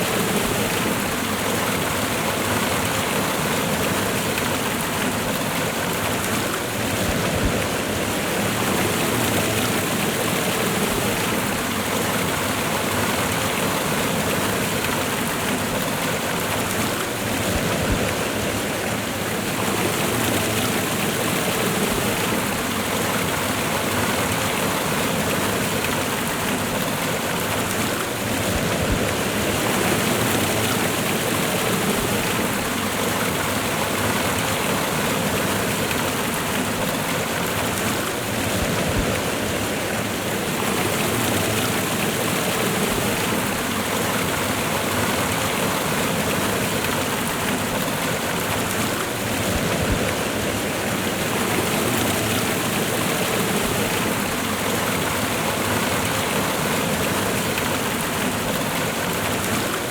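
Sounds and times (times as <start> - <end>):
waterfall and river rushing: 0.0 - 59.9.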